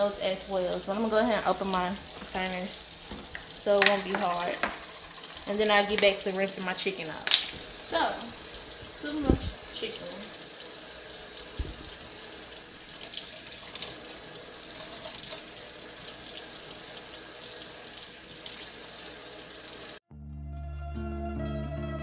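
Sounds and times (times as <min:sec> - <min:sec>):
faucet running into steel sink: 0:00.0 - 0:20.0.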